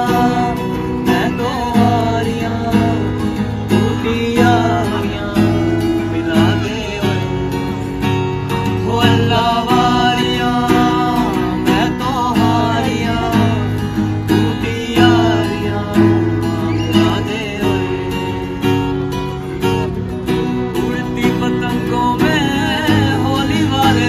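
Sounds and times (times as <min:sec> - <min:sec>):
men singing: 0:00.0 - 0:18.7, 0:20.8 - 0:24.0
acoustic guitar strumming: 0:00.0 - 0:24.0.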